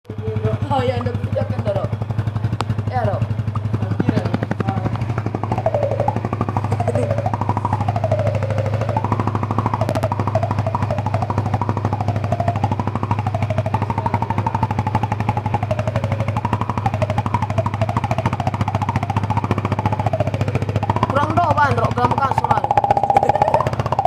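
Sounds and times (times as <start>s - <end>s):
motorcycle engine idling: 0.1s - 24.0s
wavering tone: 0.1s - 24.0s.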